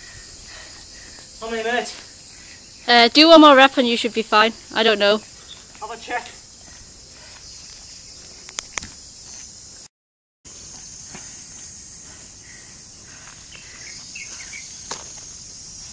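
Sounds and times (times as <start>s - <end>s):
high-pitched insect chorus: 0.0s - 9.9s, 10.5s - 15.9s.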